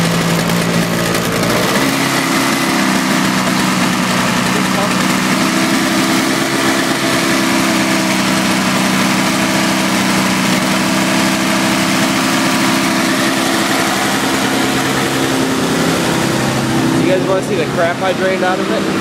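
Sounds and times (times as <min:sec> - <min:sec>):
snowblower engine idling: 0:00.0 - 0:19.0.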